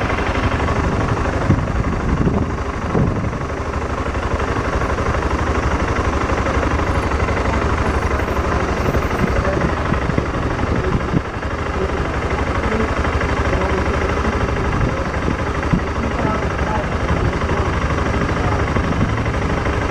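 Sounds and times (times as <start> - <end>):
motorcycle engine drone: 0.0 - 19.9
road and wind noise: 0.0 - 19.9.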